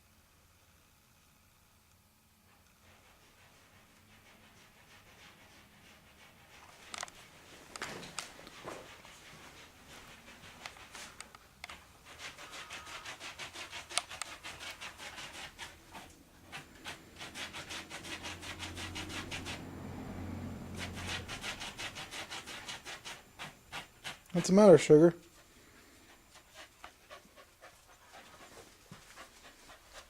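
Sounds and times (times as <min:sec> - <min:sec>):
dog panting: 0:02.6 - 0:24.6, 0:25.3 - 0:30.0.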